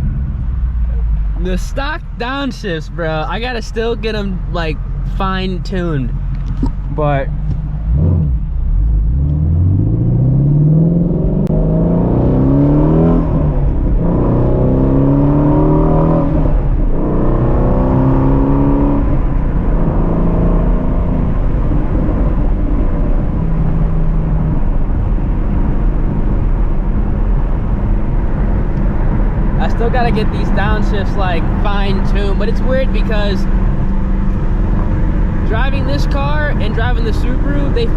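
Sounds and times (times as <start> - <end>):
car engine accelerating: 0.0 - 37.9.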